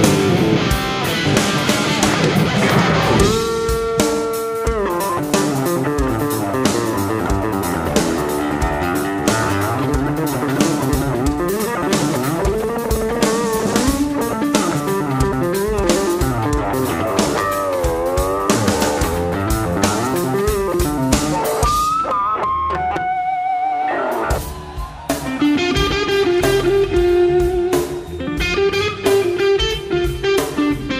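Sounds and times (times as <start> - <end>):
bass: 0.0 - 30.9
drum kit: 0.0 - 30.9
lead guitar line with bends: 0.0 - 30.9.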